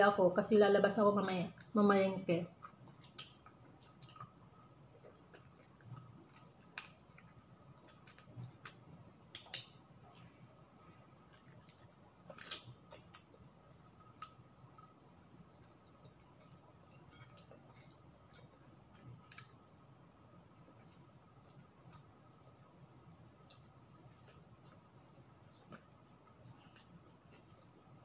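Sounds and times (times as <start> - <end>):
faint steady hum: 0.0 - 28.0
person chewing: 2.6 - 19.9, 20.6 - 22.1, 23.4 - 27.8.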